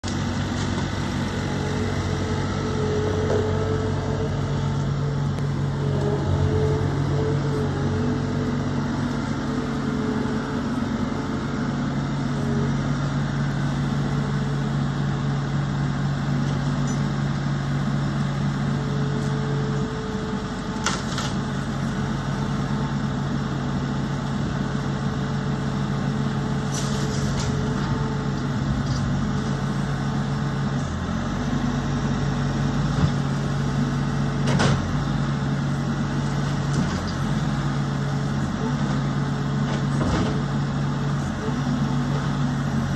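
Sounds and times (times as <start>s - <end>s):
heavy machinery engine running: 0.0s - 42.9s.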